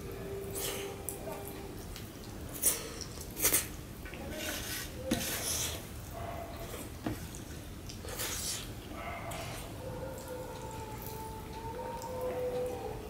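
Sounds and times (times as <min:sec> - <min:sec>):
eating sounds: 0:00.1 - 0:13.0.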